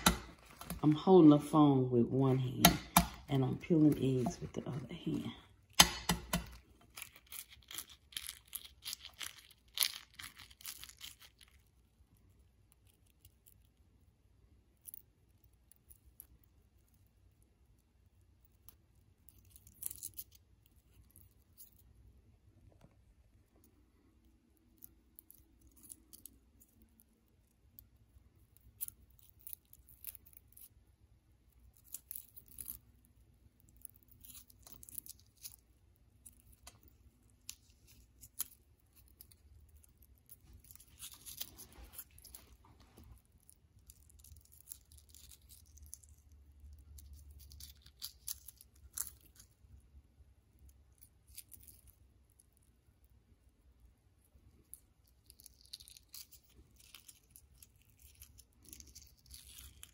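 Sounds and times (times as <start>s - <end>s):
egg shell being peeled: 0.0s - 1.0s, 2.3s - 4.8s, 5.6s - 22.1s, 22.9s - 49.9s, 50.5s - 59.9s.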